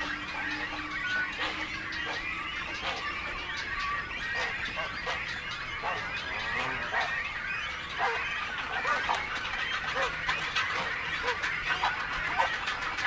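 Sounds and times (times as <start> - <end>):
water birds calling: 0.0 - 13.0.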